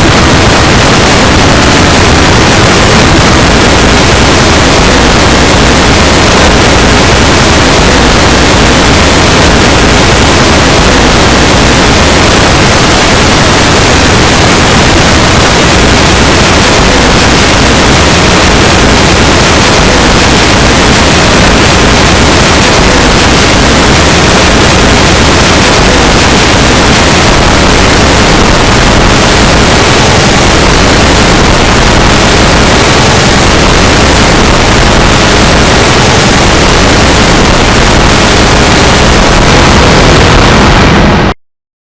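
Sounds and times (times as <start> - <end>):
distorted alert alarm noise: 0.0 - 41.4.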